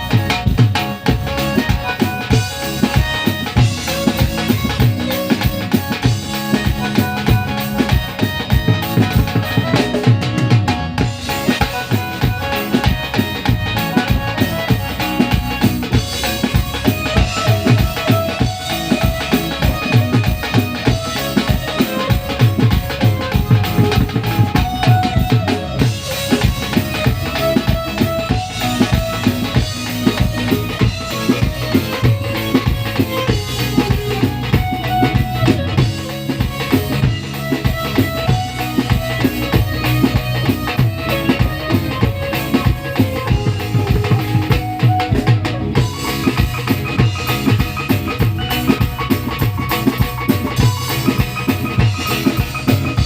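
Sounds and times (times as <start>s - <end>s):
dance music with drum beat: 0.0s - 53.0s.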